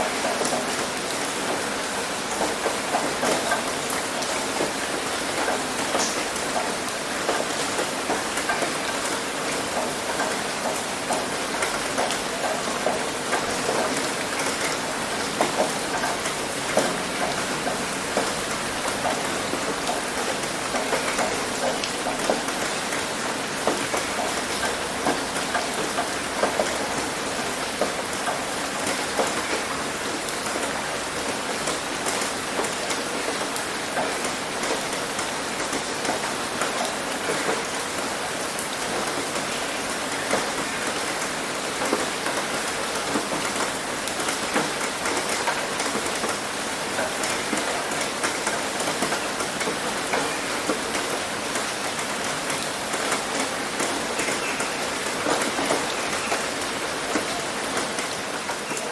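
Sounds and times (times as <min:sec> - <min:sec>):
heavy rain on a roof: 0:00.0 - 0:58.9.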